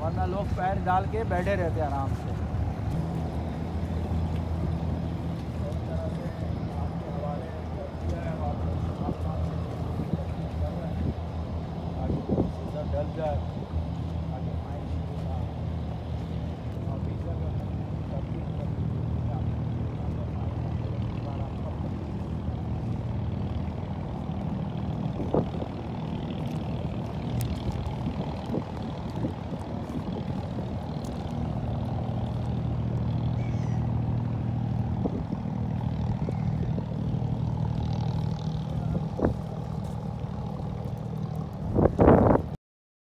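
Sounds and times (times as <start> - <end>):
boat diesel engine drone: 0.0 - 42.6.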